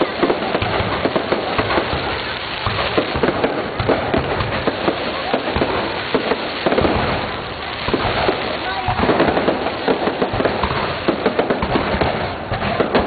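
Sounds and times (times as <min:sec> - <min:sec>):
fireworks crackling: 0:00.0 - 0:13.0
fireworks popping and banging: 0:00.0 - 0:13.0.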